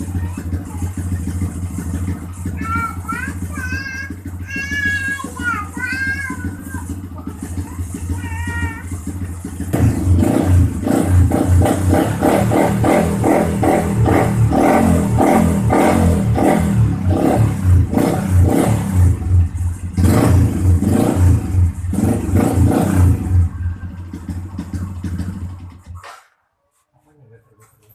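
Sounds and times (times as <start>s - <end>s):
motorcycle engine idling and revving: 0.0s - 26.4s.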